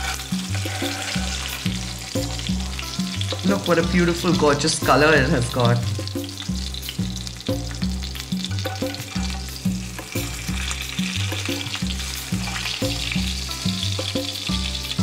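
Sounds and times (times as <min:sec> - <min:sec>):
metal spatula on skillet: 0:00.0 - 0:04.4, 0:06.0 - 0:15.0
background music with bass line: 0:00.0 - 0:15.0
fish sizzling in hot oil: 0:00.0 - 0:15.0.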